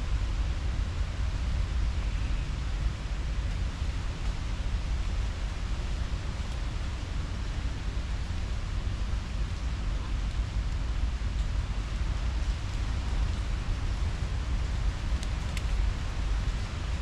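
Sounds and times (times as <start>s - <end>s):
low fluttering rumble: 0.0s - 17.0s.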